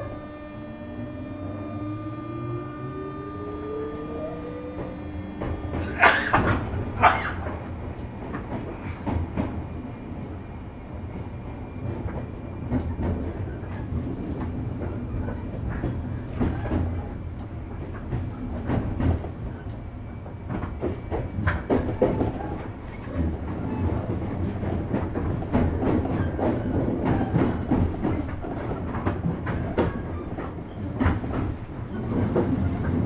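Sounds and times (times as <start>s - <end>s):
electric train rumbling: 0.0s - 33.0s.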